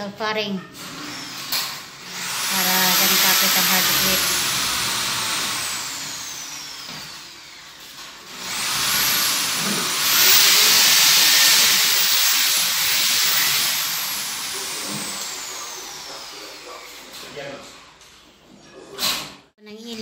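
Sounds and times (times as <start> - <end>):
electric drill boring into steel: 0.8 - 17.2.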